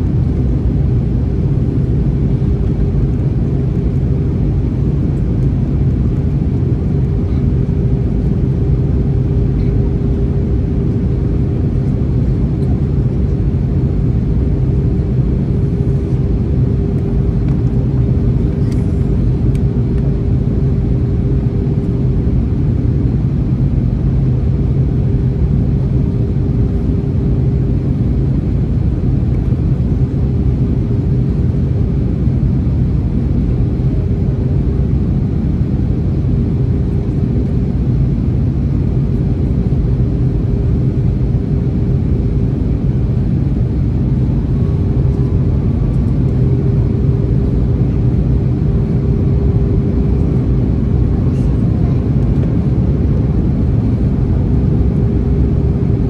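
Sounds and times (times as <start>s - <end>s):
airplane cabin engine rumble: 0.0s - 56.0s
steady hum: 0.0s - 56.0s.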